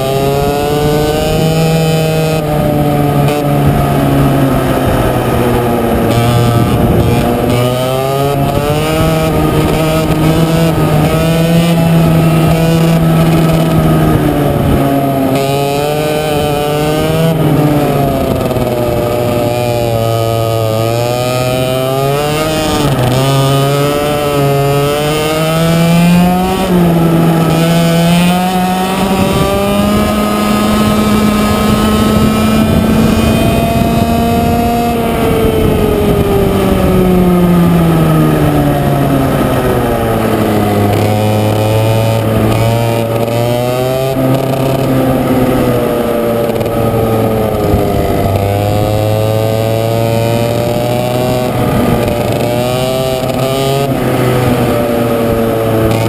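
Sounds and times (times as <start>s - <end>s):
kart engine at race speed: 0.0s - 56.0s.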